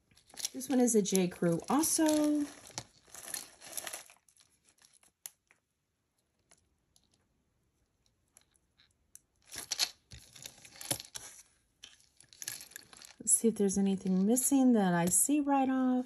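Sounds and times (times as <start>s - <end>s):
jewelry crinkling and rustling: 0.0s - 16.0s.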